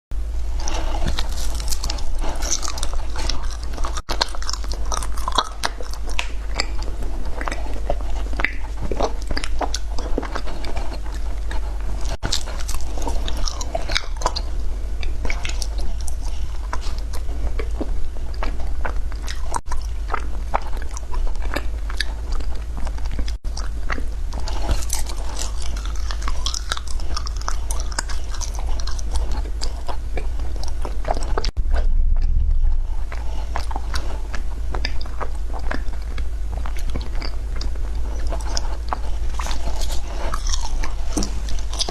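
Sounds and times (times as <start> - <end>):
ice being chewed and crunched: 0.6 - 41.9.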